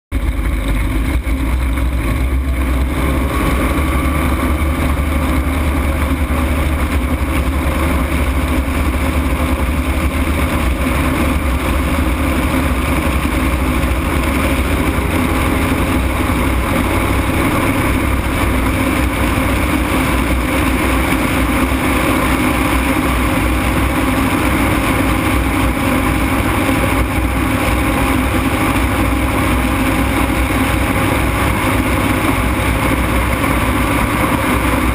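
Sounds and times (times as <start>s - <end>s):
aircraft engine and propeller drone: 0.1s - 34.9s.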